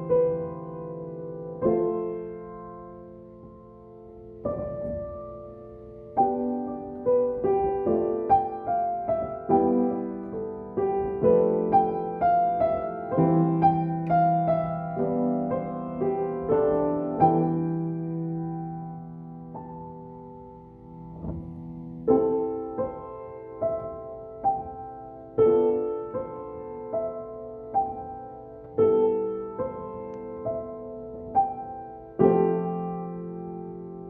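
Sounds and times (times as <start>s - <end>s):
solo piano: 0.0s - 34.0s.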